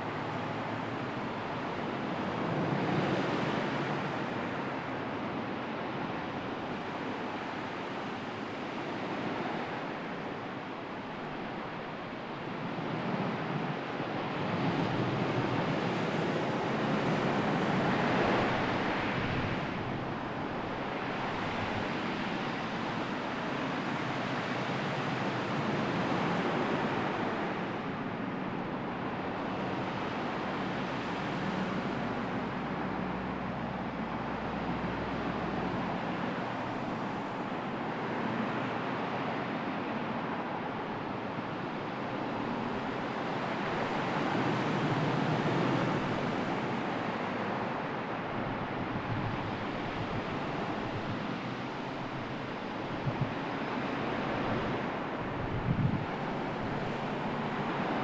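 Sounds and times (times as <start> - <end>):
sea waves washing: 0.0 - 58.0.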